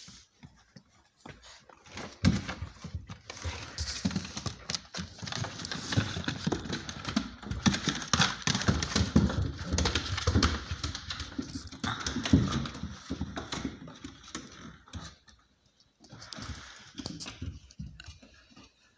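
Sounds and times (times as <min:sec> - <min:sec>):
puppy paws on wooden floor: 0:00.0 - 0:18.9.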